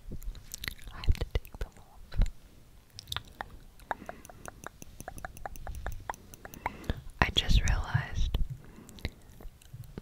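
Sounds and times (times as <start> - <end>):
wet mouth clicks and smacks: 0.5 - 2.3, 2.9 - 10.0.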